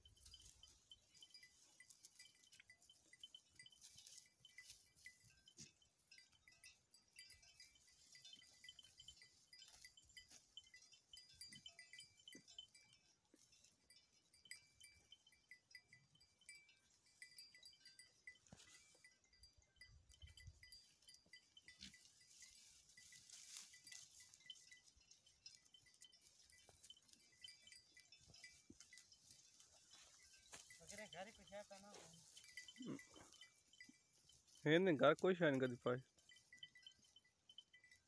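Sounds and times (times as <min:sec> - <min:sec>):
faint high tinkling: 0:00.0 - 0:38.0.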